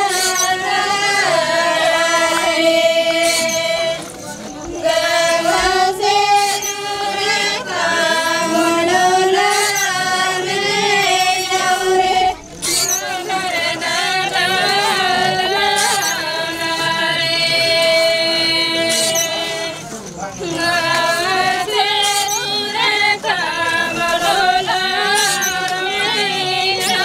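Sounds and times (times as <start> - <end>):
women singing folk song: 0.0 - 27.0.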